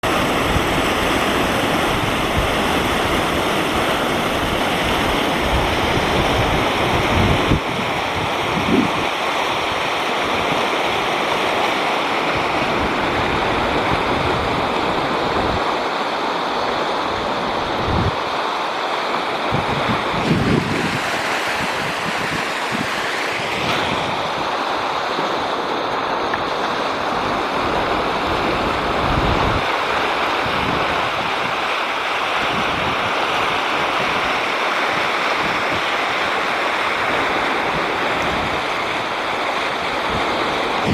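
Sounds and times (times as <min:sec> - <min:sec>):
wind buffeting microphone: 0:00.0 - 0:10.8, 0:12.3 - 0:15.9, 0:17.0 - 0:18.4, 0:19.3 - 0:40.9
floodwater rushing: 0:00.0 - 0:40.9.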